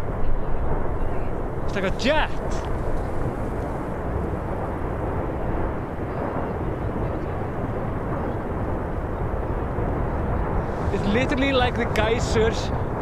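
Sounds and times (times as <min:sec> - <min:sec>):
lava fountain rushing: 0:00.1 - 0:13.0.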